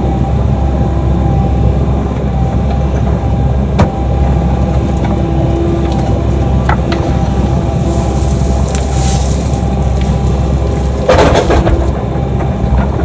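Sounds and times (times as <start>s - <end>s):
excavator engine running under load: 0.0s - 13.0s.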